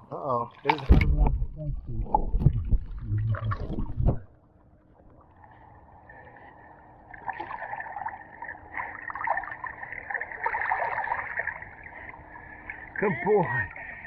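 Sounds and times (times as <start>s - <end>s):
water splashing and gurgling: 0.5s - 14.0s.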